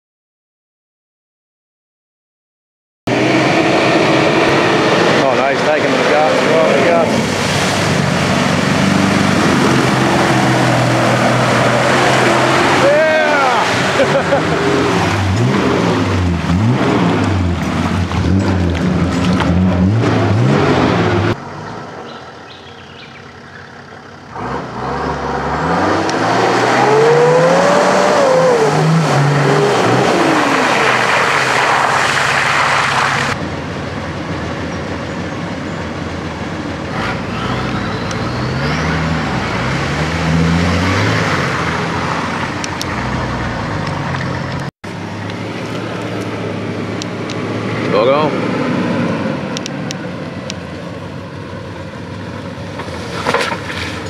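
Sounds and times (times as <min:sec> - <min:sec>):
off-road engines revving: 0:03.1 - 0:33.4, 0:34.0 - 0:54.0
mud splashing and tyre noise: 0:03.1 - 0:54.0.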